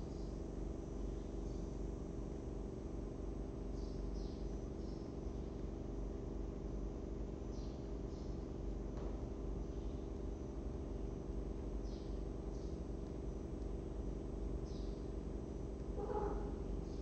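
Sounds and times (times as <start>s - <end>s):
low electrical hum and hiss: 0.0s - 17.0s.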